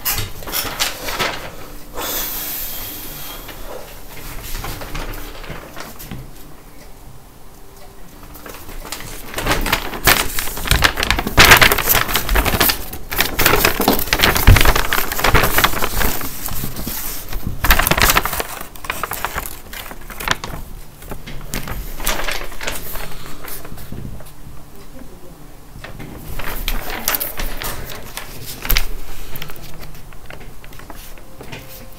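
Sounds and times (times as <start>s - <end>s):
paper crinkling and rustling: 0.0s - 6.5s, 8.2s - 24.4s, 25.8s - 31.9s.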